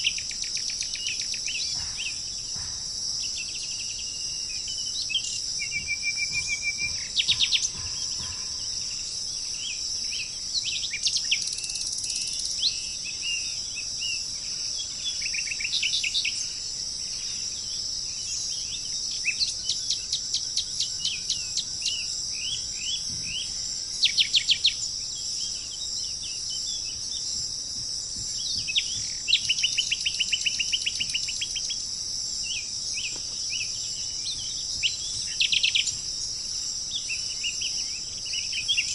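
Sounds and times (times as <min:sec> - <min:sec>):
birds chirping and trilling: 0:00.0 - 0:38.9
high-pitched insect drone: 0:00.0 - 0:38.9.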